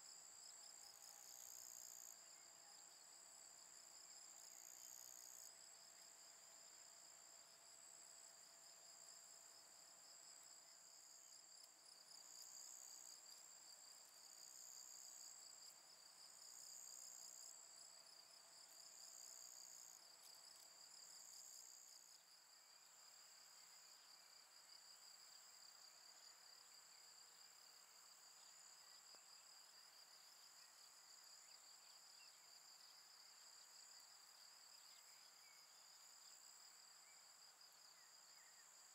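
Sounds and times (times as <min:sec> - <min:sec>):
higher insect song: 0:00.0 - 0:38.9.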